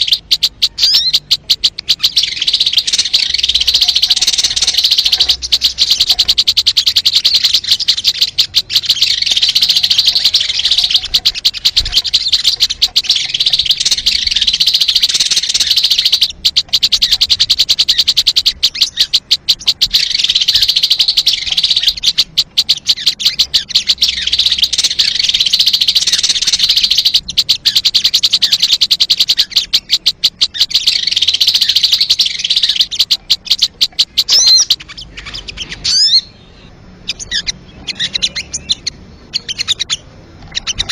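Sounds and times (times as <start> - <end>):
recorded bird song chattering: 0.0 - 40.9.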